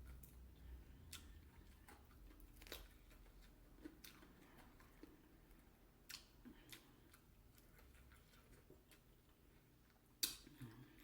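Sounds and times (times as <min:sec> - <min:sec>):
quiet chewing: 0:00.0 - 0:11.0.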